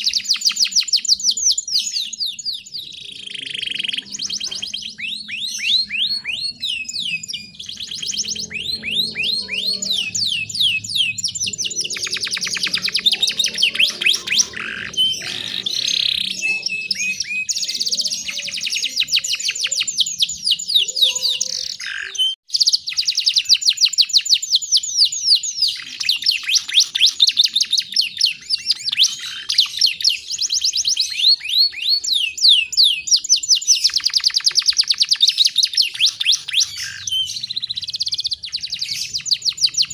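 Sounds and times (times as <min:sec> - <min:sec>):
songbird singing fast trills: 0:00.0 - 0:39.9.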